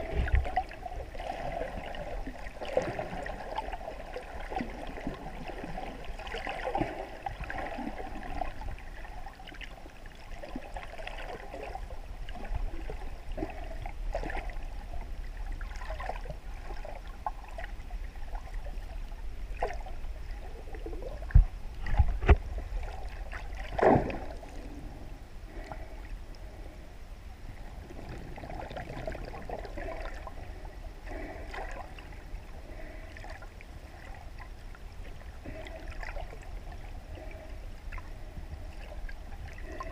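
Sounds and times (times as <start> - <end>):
underwater sloshing and gurgling: 0.0 - 39.9.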